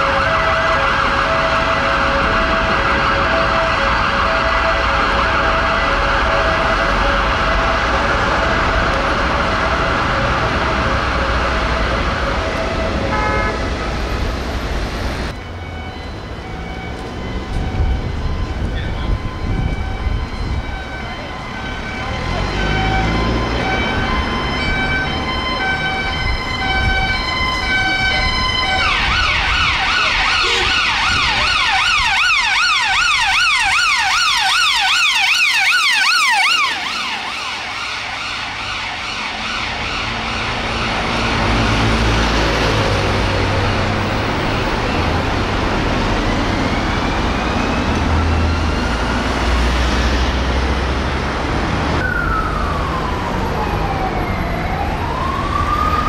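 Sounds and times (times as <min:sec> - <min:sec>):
police sirens: 0:00.0 - 0:56.0
traffic rumble: 0:00.0 - 0:56.0.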